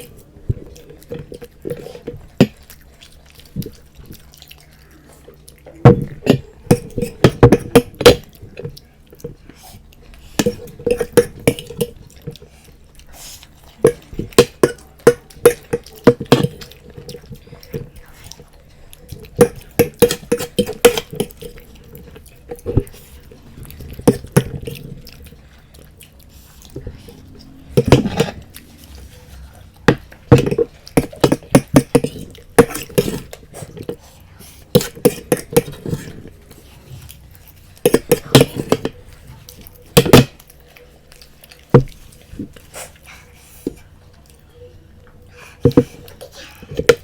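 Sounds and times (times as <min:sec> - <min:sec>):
chewing: 0:00.0 - 0:47.0.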